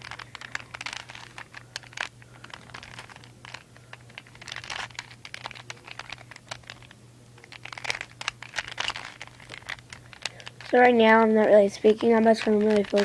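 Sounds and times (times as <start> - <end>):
puzzle cube plastic clicks: 0.0 - 11.2, 11.8 - 13.0.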